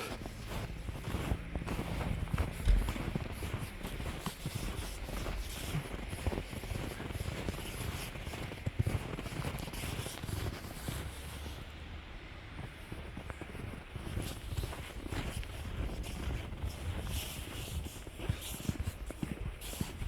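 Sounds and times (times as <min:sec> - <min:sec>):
footsteps in snow: 0:00.0 - 0:20.0.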